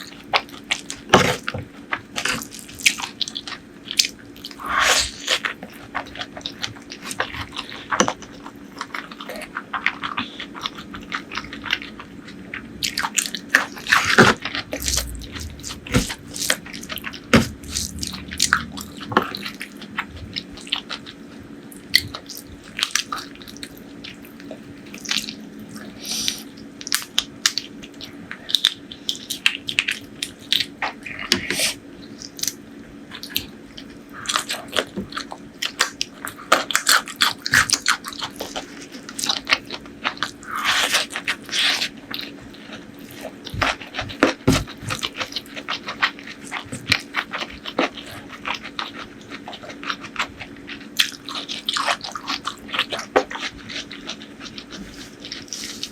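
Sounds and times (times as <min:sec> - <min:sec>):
faint steady hum: 0:00.0 - 0:55.9
wet chewing and crunching: 0:00.0 - 0:55.9.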